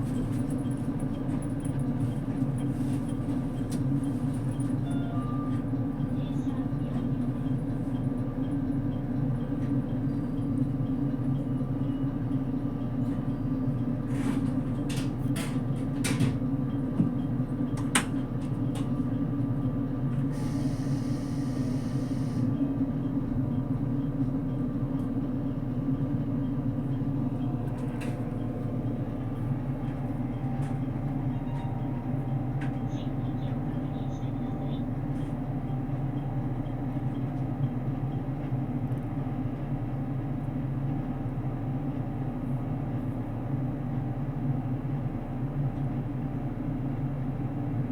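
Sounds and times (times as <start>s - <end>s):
train interior hum and rumble: 0.0s - 47.9s.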